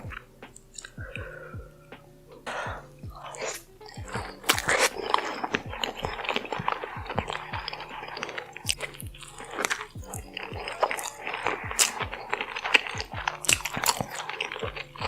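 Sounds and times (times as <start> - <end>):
crunching and chewing food: 0.0 - 1.7, 2.4 - 15.0
background music with drum beat: 0.0 - 15.0.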